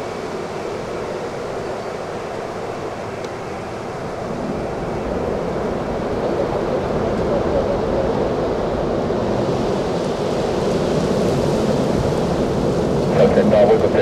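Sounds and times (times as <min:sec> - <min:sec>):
jet airliner engine rumble: 0:00.0 - 0:14.0.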